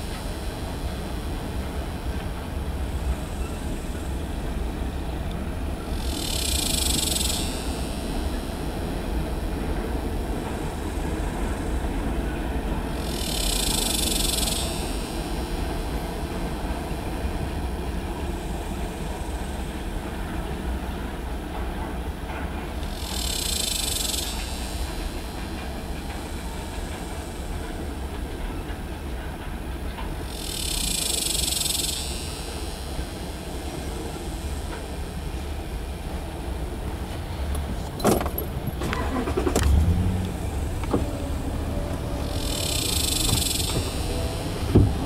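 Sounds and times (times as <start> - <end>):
freight train cars rumbling past: 0.0 - 45.0.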